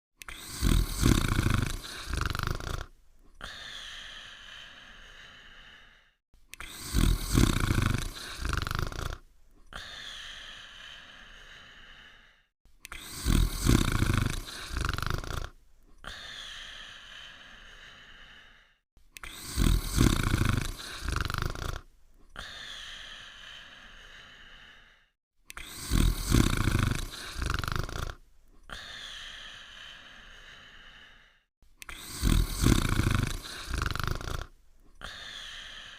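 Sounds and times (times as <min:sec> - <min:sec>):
cartoon dog snoring: 0:00.2 - 0:18.6, 0:19.2 - 0:24.9, 0:25.5 - 0:35.9.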